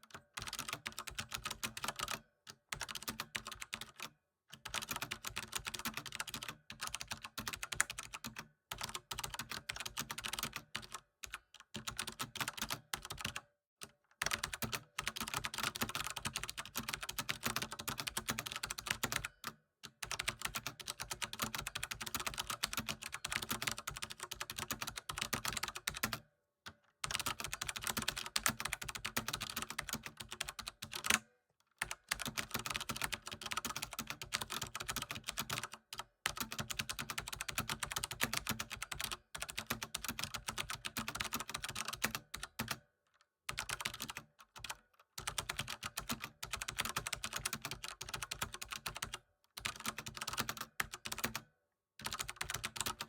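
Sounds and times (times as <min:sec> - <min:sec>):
computer keyboard typing: 0:00.1 - 0:13.4, 0:14.2 - 0:26.2, 0:27.0 - 0:31.2, 0:31.8 - 0:42.8, 0:43.5 - 0:53.0.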